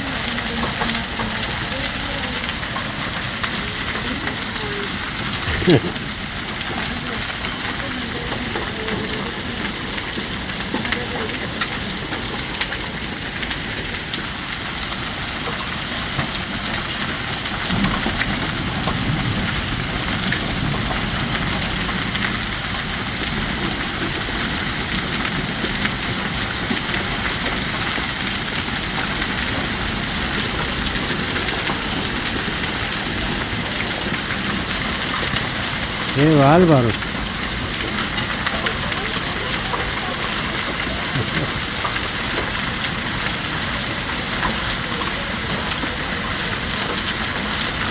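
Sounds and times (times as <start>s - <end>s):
heavy rain: 0.0s - 47.9s
hailstones striking: 0.1s - 47.9s.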